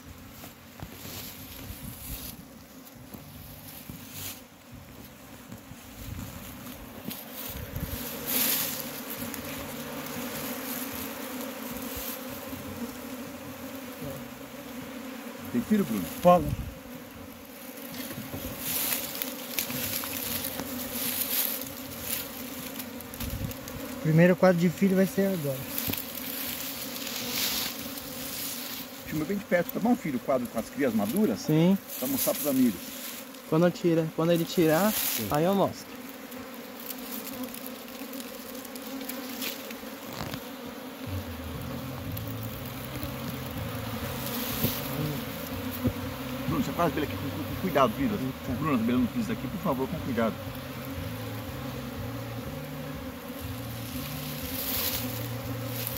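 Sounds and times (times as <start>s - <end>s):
honeybees buzzing: 0.0s - 55.9s.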